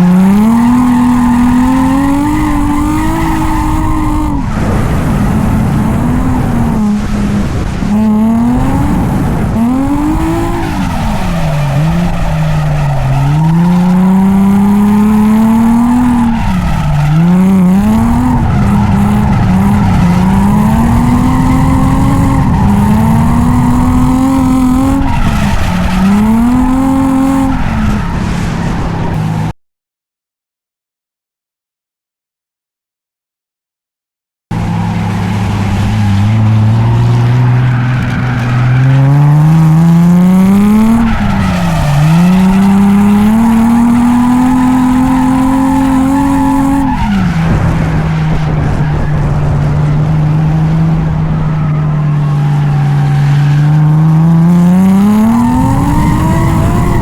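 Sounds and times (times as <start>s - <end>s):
car engine revving: 0.0s - 29.5s, 34.5s - 57.0s
tyre and road noise: 0.0s - 29.5s, 34.5s - 57.0s.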